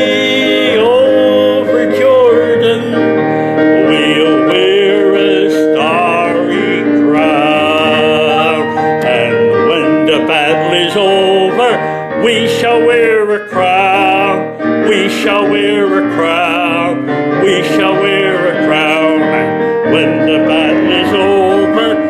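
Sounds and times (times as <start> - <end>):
piano accompaniment: 0.0 - 22.0.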